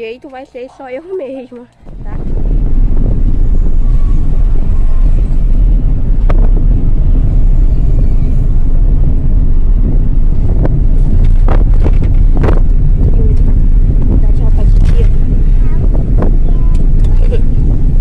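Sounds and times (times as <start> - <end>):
car road and engine noise: 0.0 - 18.0
wind buffeting microphone: 1.8 - 18.0.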